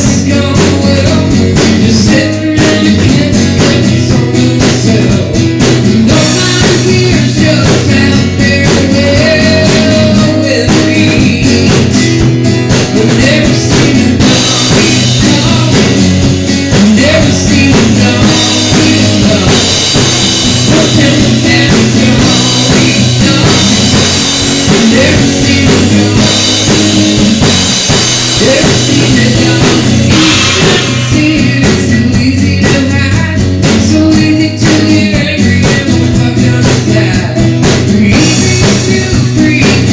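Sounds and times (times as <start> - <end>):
rock-blues band playing: 0.0 - 39.9.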